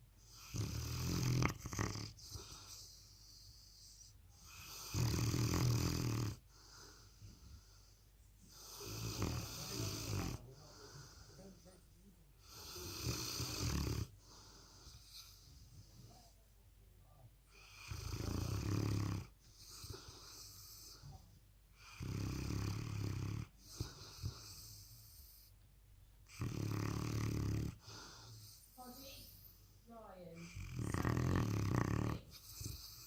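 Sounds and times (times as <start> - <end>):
puppy snoring: 0.0 - 11.8, 12.4 - 16.4, 17.5 - 25.5, 26.2 - 33.0.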